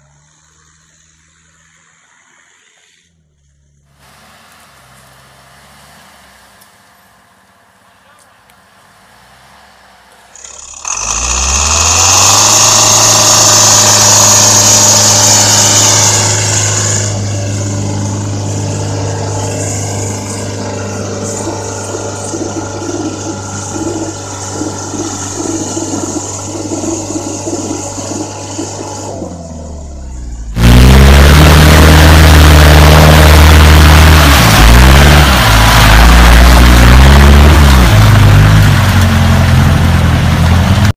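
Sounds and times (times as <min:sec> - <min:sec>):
off-road vehicle engine revving: 0:02.6 - 0:40.9.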